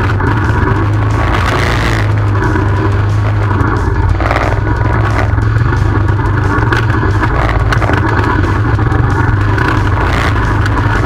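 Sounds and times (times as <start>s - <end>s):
atv engine droning: 0.0s - 11.0s
rattles and knocks over bumps: 0.0s - 11.0s.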